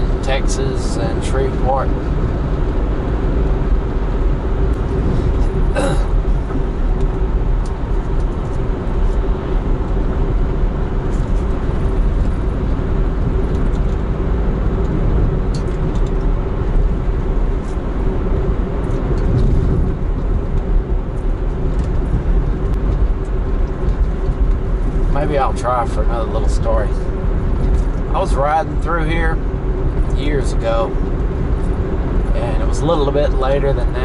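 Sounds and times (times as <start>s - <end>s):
car interior road noise: 0.0s - 34.0s.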